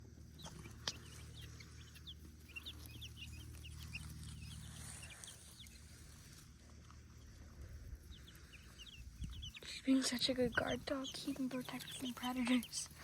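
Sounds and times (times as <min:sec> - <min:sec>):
baby chicks peeping: 0:00.0 - 0:13.0
low steady hum: 0:00.0 - 0:13.0.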